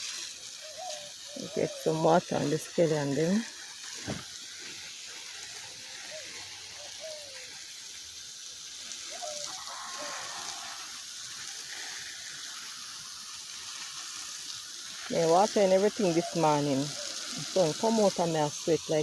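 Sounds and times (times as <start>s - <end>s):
garden hose spraying water: 0.0s - 19.0s.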